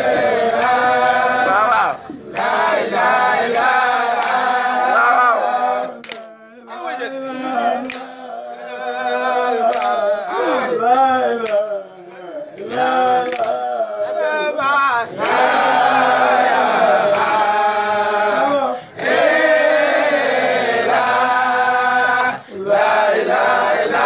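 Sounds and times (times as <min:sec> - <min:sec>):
men chanting together: 0:00.0 - 0:24.0.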